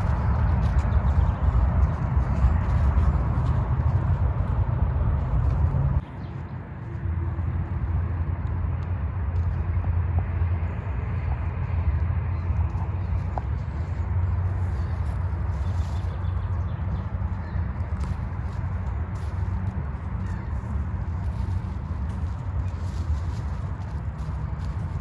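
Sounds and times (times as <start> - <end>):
wind rumble: 0.0 - 25.0.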